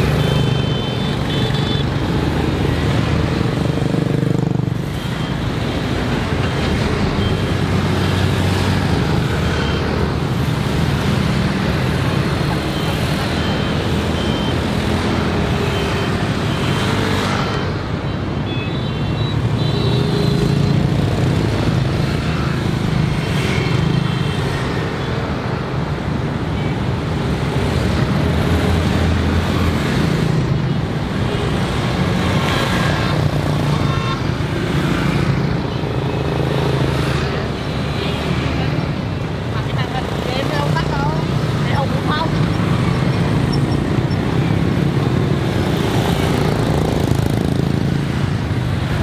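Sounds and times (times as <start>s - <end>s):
motorbikes and cars passing: 0.0s - 49.0s.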